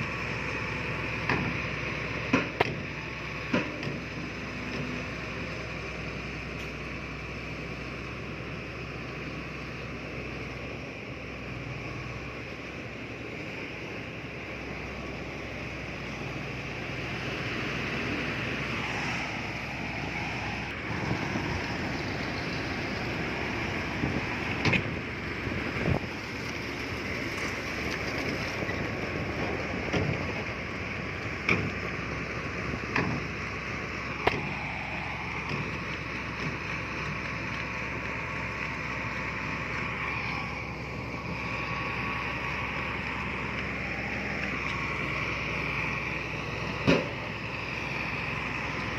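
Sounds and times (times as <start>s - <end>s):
heavy machinery engine running: 0.0s - 48.9s.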